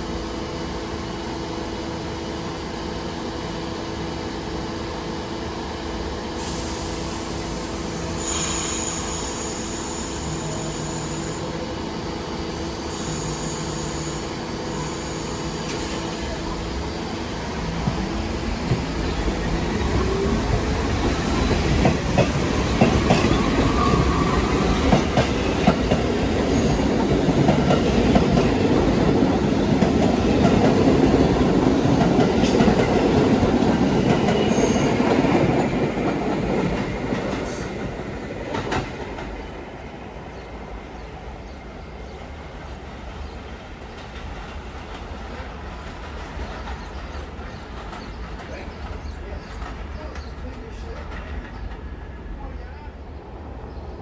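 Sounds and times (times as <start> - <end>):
subway train wheels clacking: 0.0 - 54.0.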